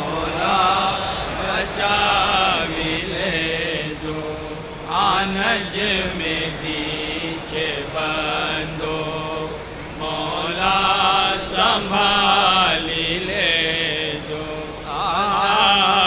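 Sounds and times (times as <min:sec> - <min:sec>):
person chanting: 0:00.0 - 0:16.0.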